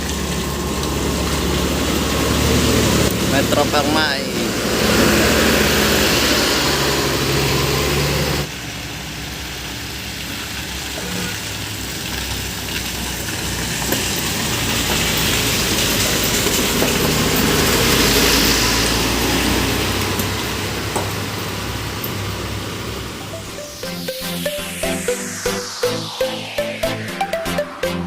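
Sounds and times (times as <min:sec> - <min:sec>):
vehicle engines idling in traffic: 0:00.0 - 0:23.3.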